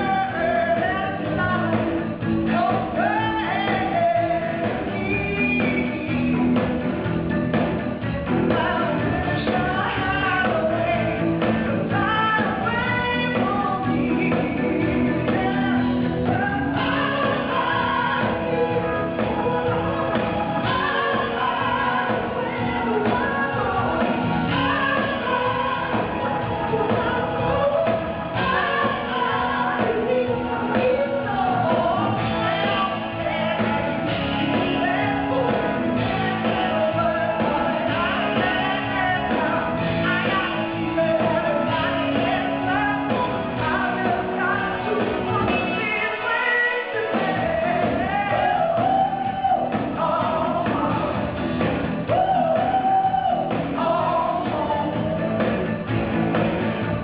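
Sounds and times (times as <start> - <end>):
live pop-rock band: 0.0 - 57.0
woman singing: 0.0 - 57.0.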